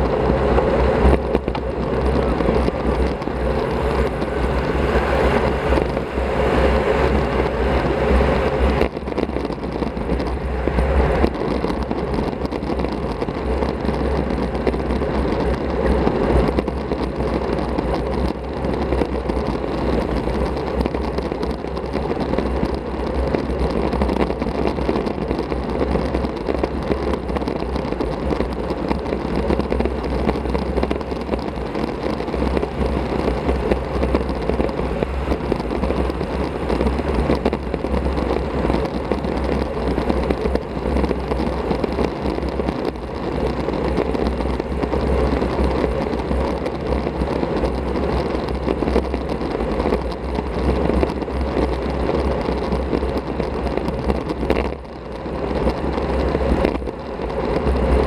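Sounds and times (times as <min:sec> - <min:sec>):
bicycle tyre and road noise: 0:00.0 - 0:58.0
wind buffeting microphone: 0:00.0 - 0:58.0.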